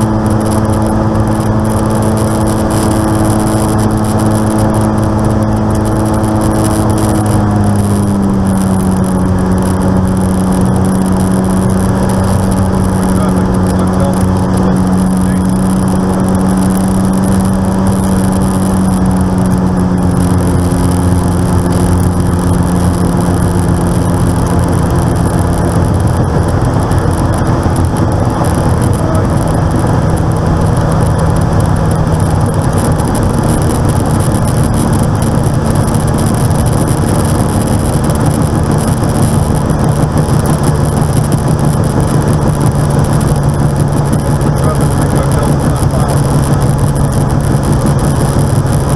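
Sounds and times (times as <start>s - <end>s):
aircraft piston engine running: 0.0s - 48.9s.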